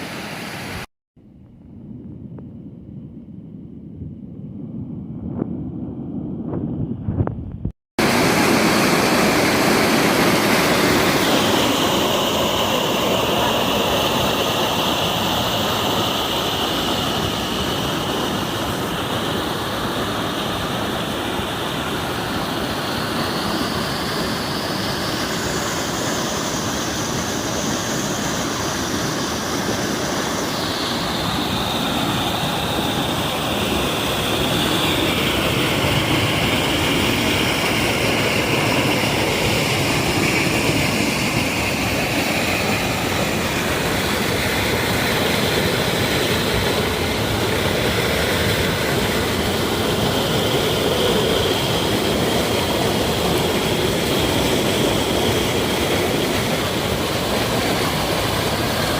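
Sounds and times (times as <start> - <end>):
loud rush of water: 0.0 - 0.9, 8.0 - 58.9.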